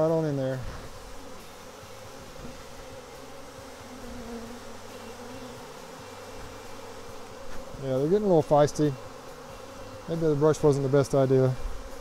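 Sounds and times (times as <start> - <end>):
bee swarm humming: 0.0 - 12.0.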